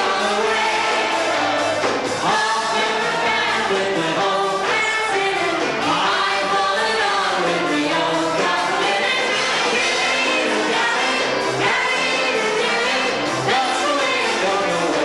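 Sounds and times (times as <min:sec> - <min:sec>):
band accompaniment: 0:00.0 - 0:15.0
person singing: 0:02.2 - 0:15.0.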